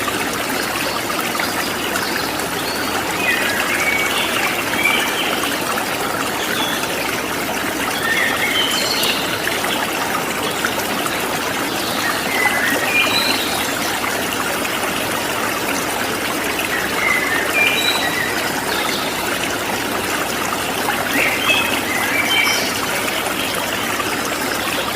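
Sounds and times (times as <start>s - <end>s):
water flowing: 0.0s - 24.9s.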